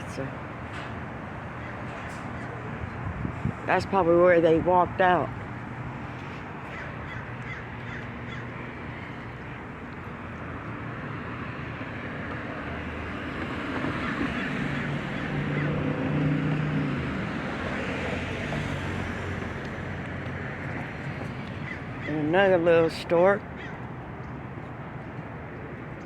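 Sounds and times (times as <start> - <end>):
street noise: 0.0 - 26.0.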